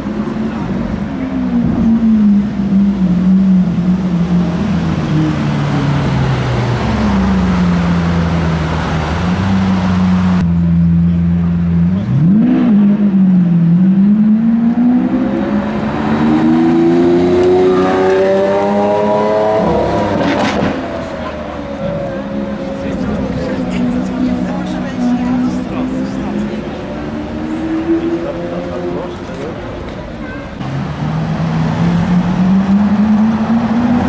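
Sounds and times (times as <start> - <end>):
sports car engine revving: 0.2 - 29.8.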